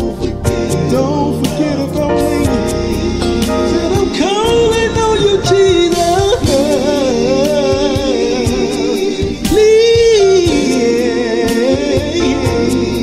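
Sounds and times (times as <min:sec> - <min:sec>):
band with steady drum beat: 0:00.0 - 0:12.8
person singing gospel: 0:00.0 - 0:13.0.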